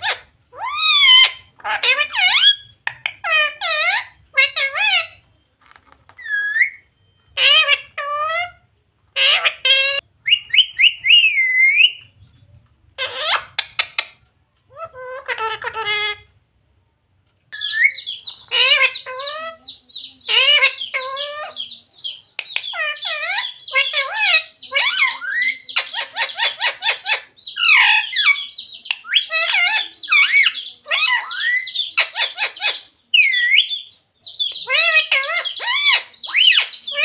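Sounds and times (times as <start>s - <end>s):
parrot squawking and chattering: 0.0s - 12.1s, 12.9s - 16.3s, 17.5s - 37.0s.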